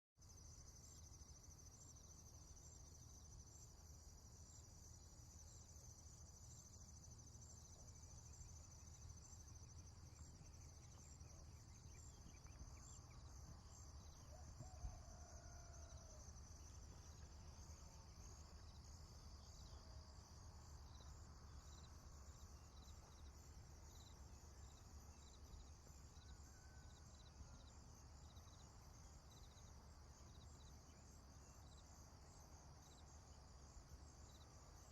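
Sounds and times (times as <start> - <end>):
insects trilling: 0.3 - 34.9.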